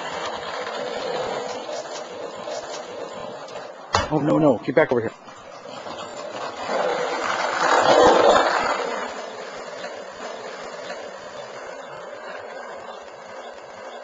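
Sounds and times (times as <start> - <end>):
skateboard wheels rolling on asphalt: 0.0 - 14.0.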